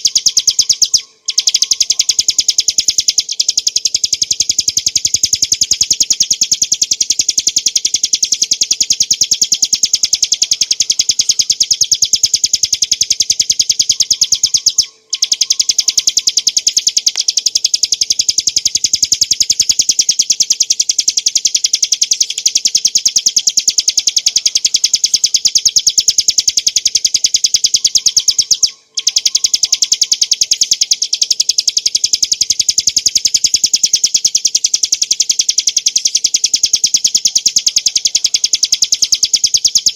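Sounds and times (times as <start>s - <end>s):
bird singing rapid high trill: 0.0s - 39.9s.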